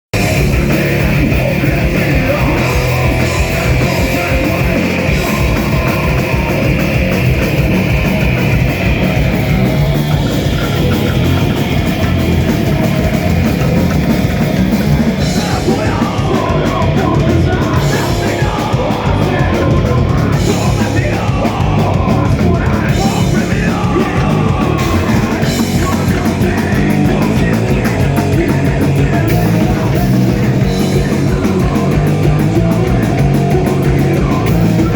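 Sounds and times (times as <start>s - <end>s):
drums: 0.0s - 34.9s
distorted guitars: 0.1s - 34.9s
rock band playing live: 0.1s - 34.9s.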